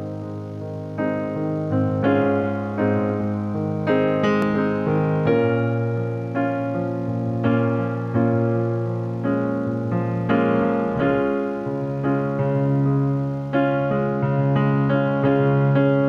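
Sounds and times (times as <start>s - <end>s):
keyboard playing slow chords: 0.0s - 16.0s.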